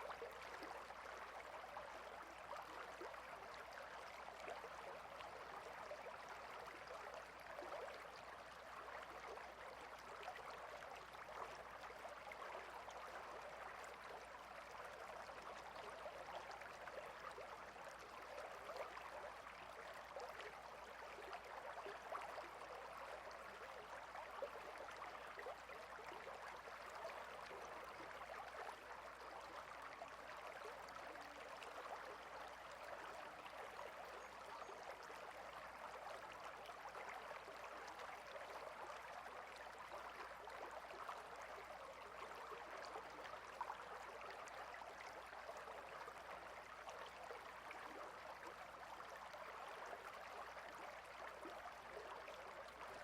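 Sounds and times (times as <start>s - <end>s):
stream water babbling: 0.0s - 53.0s.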